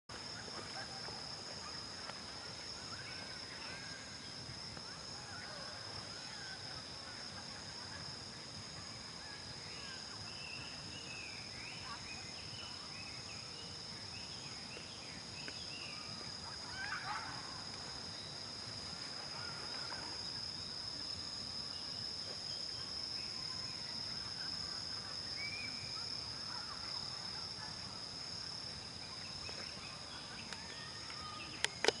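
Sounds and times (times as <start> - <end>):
high-pitched insect chorus: 0.1 - 32.0.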